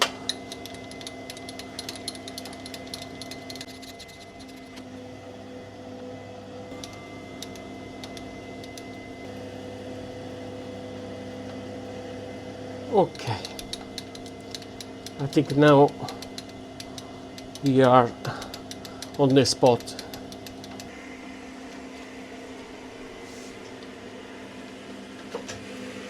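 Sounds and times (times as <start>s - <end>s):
metal lathe motor hum: 0.0s - 26.0s.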